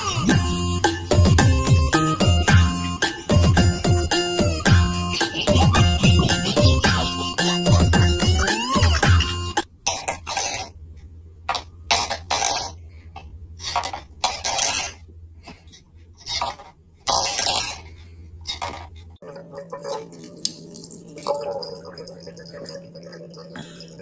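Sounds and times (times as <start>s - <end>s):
low steady hum: 0.2s - 24.0s.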